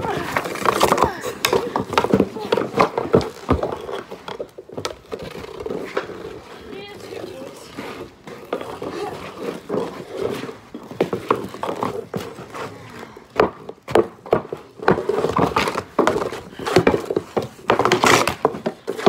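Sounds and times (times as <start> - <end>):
hockey sticks clacking: 0.0 - 19.0
skate blades scraping ice: 0.0 - 19.0.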